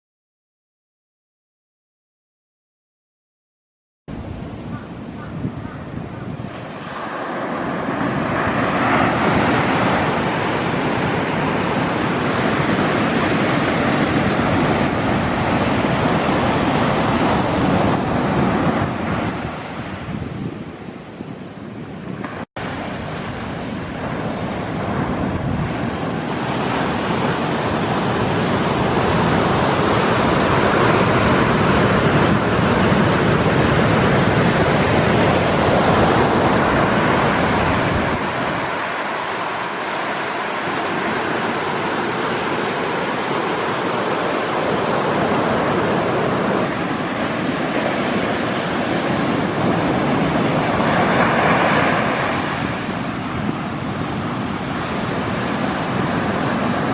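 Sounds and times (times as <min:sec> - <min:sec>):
wind on microphone: 0:04.1 - 0:56.9
surf breaking on beach: 0:05.5 - 0:21.0, 0:22.0 - 0:56.9.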